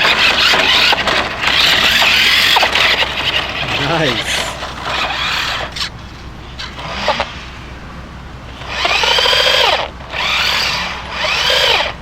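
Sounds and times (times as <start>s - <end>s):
toy truck electric motor whining: 0.0s - 5.9s, 6.6s - 7.4s, 8.6s - 12.0s.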